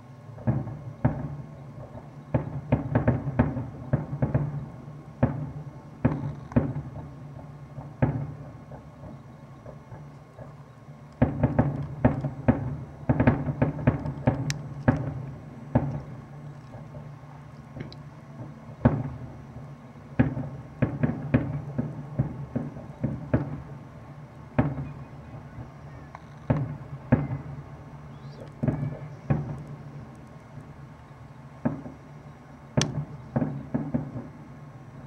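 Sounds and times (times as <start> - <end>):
firework shells bursting: 0.4 - 23.8, 25.8 - 34.7.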